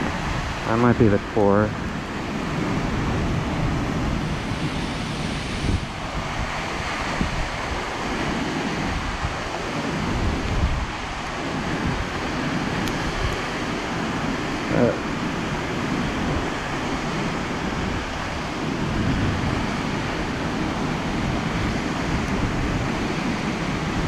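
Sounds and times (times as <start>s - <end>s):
waterfall rushing: 0.0s - 24.0s
wind buffeting microphone: 0.0s - 24.0s.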